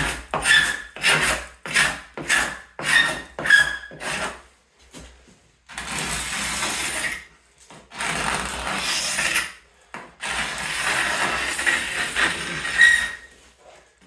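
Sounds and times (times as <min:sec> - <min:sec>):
paint scraper scraping wood: 0:00.0 - 0:05.1, 0:05.7 - 0:13.8.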